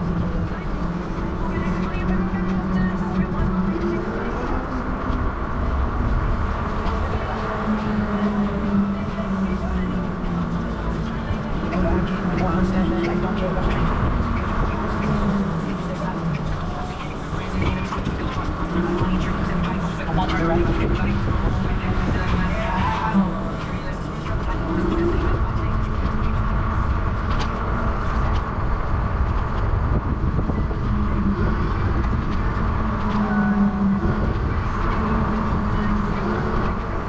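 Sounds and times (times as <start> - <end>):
low hum: 0.0 - 37.0
wind and road noise: 0.0 - 37.0.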